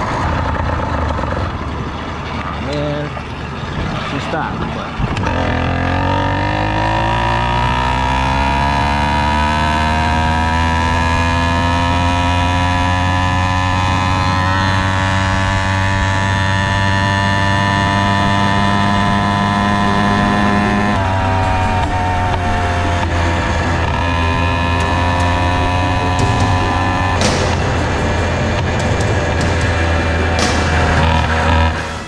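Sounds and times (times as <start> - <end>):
two-stroke engine running: 0.0 - 32.0.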